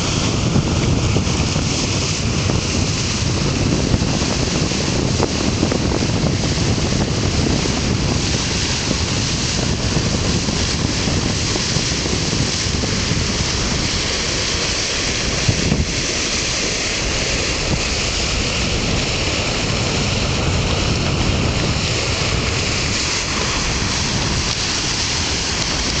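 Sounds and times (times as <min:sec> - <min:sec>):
sea water rushing at bow: 0:00.0 - 0:26.0
wind buffeting microphone: 0:00.0 - 0:26.0.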